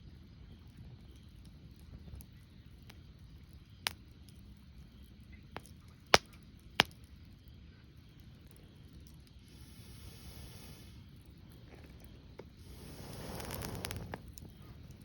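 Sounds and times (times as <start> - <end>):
low steady fire rumble: 0.0 - 15.0
wood fire crackling and popping: 0.0 - 15.0.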